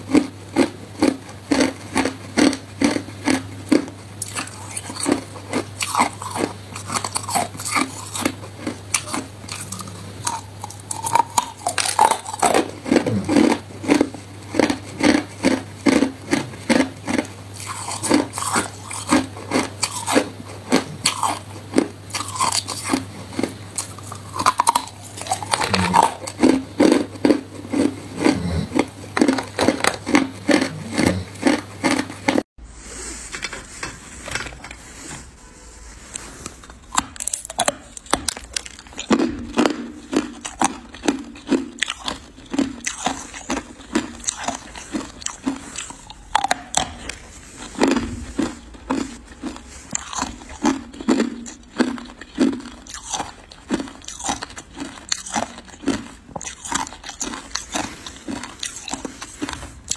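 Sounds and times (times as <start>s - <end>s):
ice cubes crunching in mouth: 0.0s - 32.4s, 36.9s - 59.9s.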